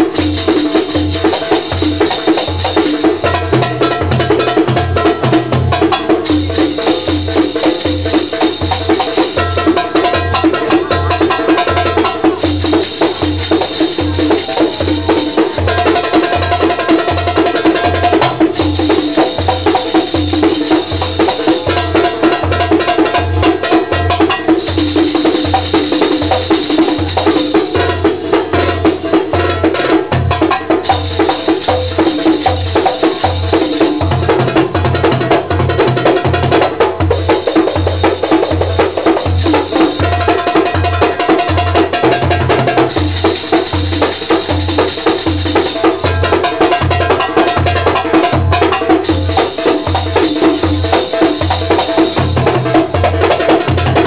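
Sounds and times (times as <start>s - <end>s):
hand percussion: 0.0s - 54.0s.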